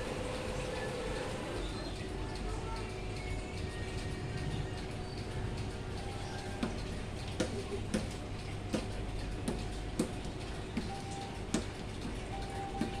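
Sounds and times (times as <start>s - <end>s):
faint steady tones: 0.0s - 13.0s
machine humming: 0.0s - 13.0s.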